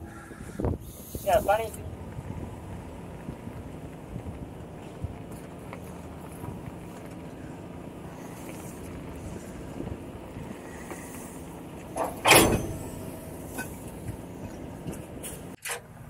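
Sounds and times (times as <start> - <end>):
truck engine running at low revs: 0.0 - 16.0.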